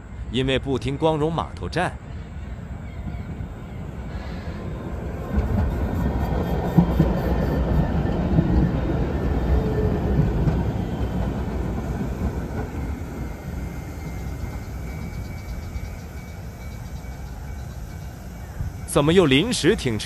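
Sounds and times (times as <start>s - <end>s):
tram rumbling on track: 0.0s - 20.0s.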